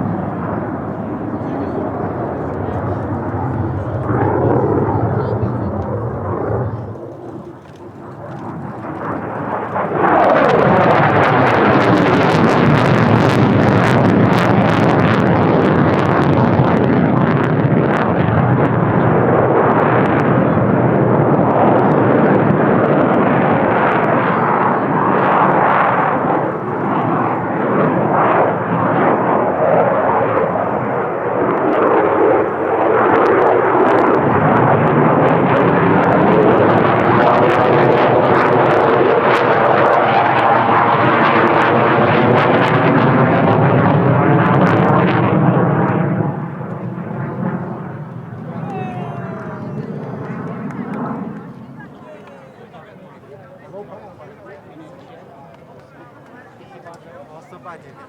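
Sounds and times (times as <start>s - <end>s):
jet engine roar: 0.0s - 58.0s.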